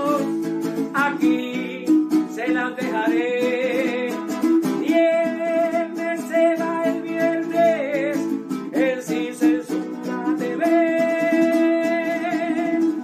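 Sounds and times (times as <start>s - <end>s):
small guitar strumming: 0.0s - 13.0s.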